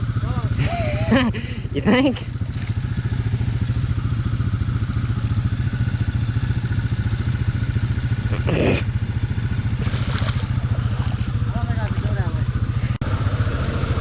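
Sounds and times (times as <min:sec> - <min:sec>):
off-road vehicle engine idling: 0:00.0 - 0:14.0.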